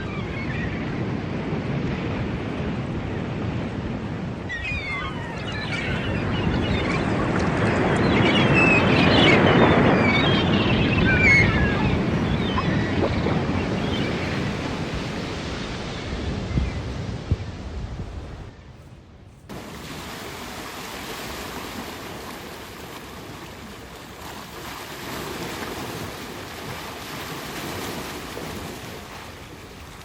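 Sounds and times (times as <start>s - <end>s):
sea waves breaking: 0.0s - 30.0s.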